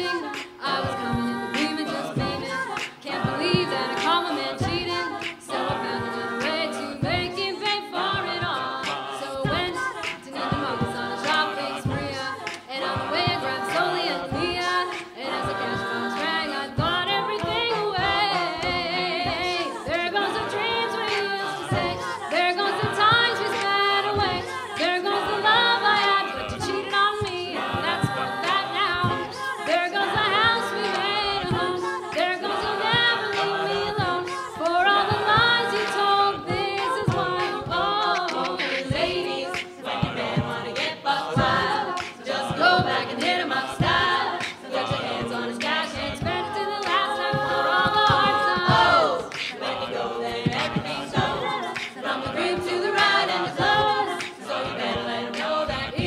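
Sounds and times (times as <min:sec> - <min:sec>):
a cappella group singing pop song: 0:00.0 - 0:56.0.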